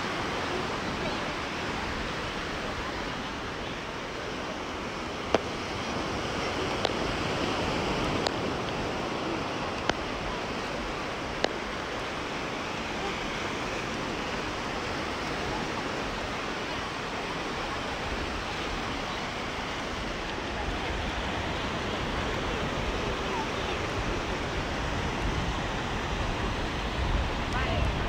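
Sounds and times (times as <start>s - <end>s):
surf washing on shore: 0.0s - 28.0s.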